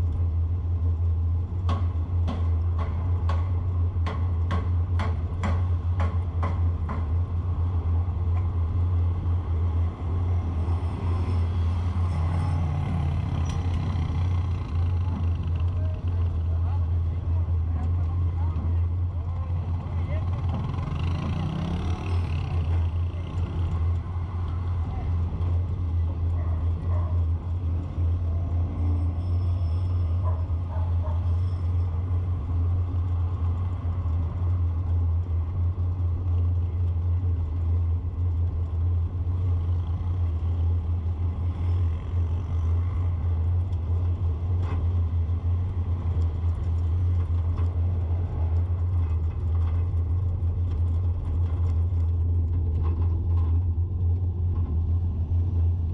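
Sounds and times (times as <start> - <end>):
vehicle driving on road: 0.0 - 55.9.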